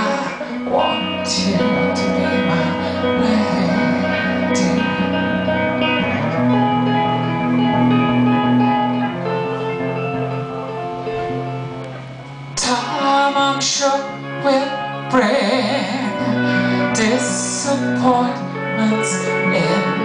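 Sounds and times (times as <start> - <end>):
electric guitar strumming chords: 0.0 - 20.0.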